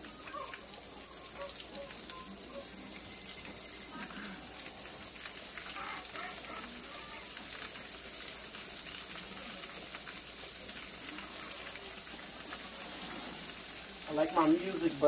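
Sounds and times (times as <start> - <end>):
shrimp sizzling in hot oil: 0.0 - 15.0.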